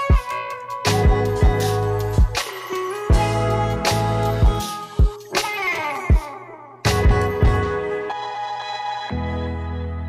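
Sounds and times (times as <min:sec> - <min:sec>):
plucked guitar-like melody: 0:00.0 - 0:09.7.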